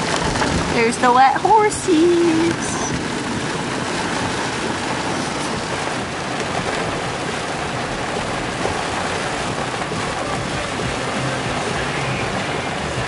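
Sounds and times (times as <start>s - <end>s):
rain and wet-road noise in car: 0.0s - 13.0s.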